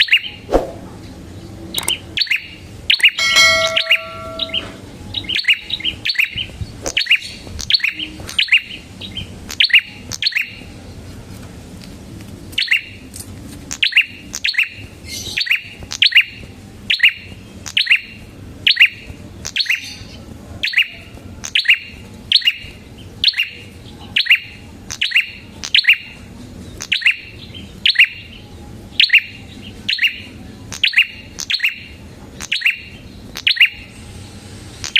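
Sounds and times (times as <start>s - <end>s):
songbird chirping: 0.0s - 10.7s, 12.5s - 13.0s, 13.7s - 33.9s.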